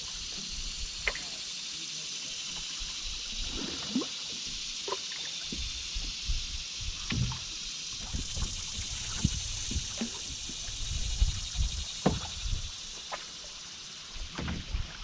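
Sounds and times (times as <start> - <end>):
moving water hiss: 0.0 - 15.0
paddle splashes and drips: 0.0 - 15.0.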